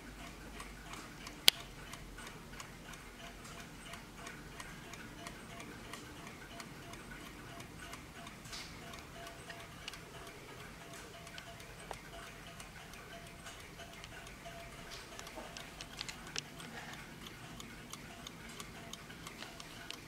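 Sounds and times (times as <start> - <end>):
mantel clock ticking: 0.0 - 20.0.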